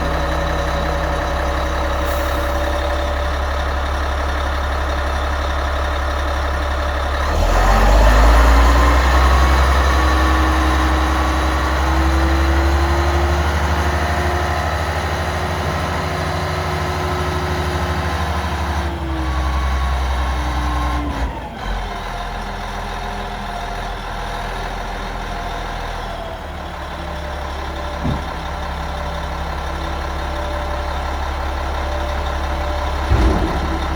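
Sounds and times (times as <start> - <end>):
diesel engine revving: 0.0 - 23.8, 25.6 - 33.9
diesel engine idling: 0.0 - 33.9.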